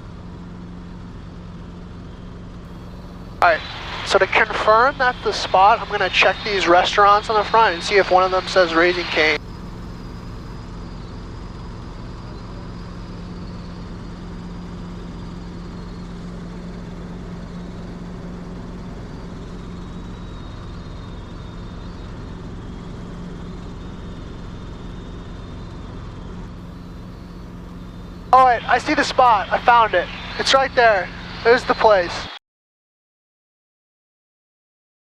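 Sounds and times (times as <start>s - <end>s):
helicopter engine and rotors drone: 0.0s - 32.4s.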